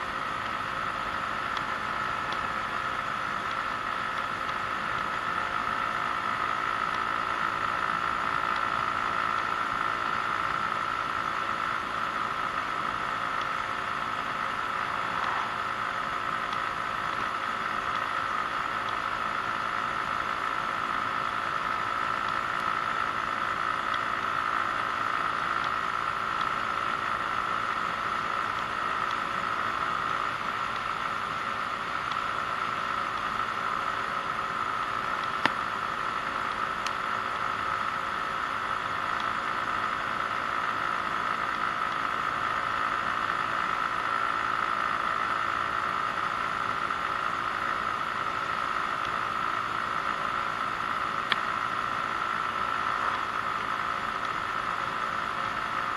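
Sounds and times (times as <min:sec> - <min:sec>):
road noise: 0:00.0 - 0:55.9
scooter engine cruising: 0:00.0 - 0:55.9.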